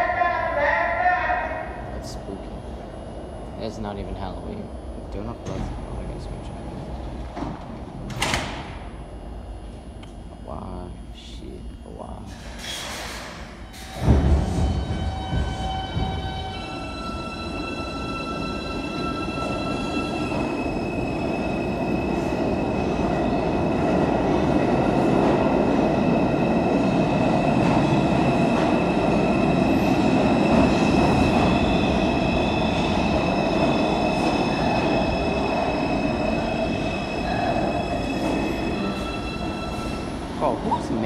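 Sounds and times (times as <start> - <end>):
subway train rumbling: 0.0 - 41.0.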